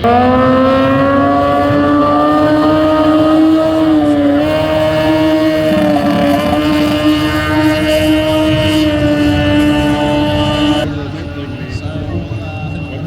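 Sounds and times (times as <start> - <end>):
racing boat engine at high revs: 0.0 - 13.0.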